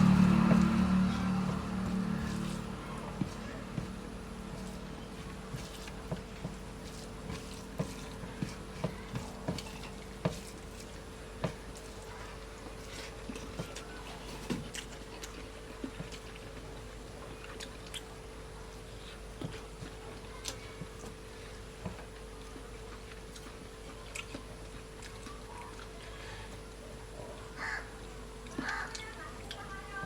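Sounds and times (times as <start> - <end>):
steady low hum: 0.0 - 30.0
small clicks and taps of eating: 1.5 - 26.7, 28.4 - 29.8.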